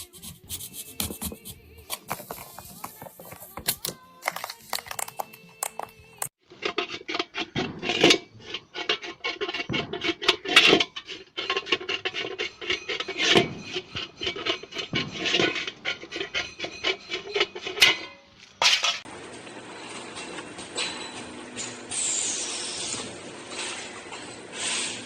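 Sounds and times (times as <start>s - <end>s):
scraping and rasping strokes: 0.0s - 18.0s, 20.8s - 25.0s.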